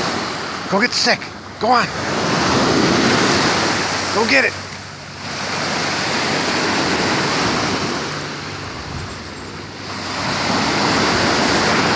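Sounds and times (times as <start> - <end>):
lake waves washing on shore: 0.0 - 11.9.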